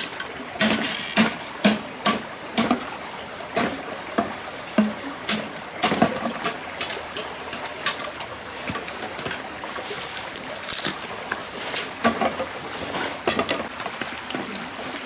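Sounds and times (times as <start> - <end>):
sharp knocks or splashes: 0.0 - 13.8
stream water running: 0.0 - 15.0.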